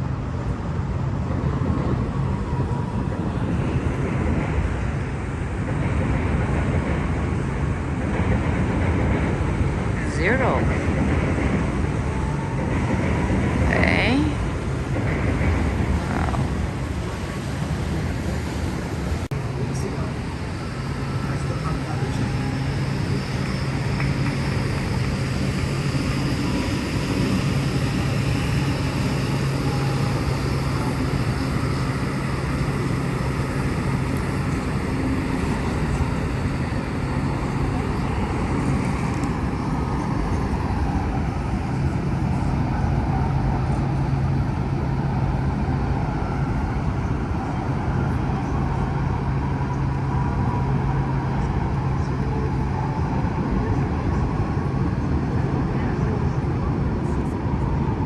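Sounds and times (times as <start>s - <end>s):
city traffic noise: 0.0s - 58.0s
low engine hum: 0.0s - 58.0s.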